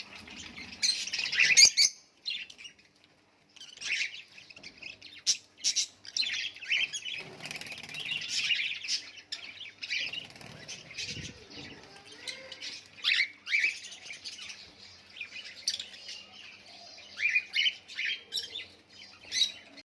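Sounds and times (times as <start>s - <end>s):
parrots chirping and chattering: 0.0s - 19.8s.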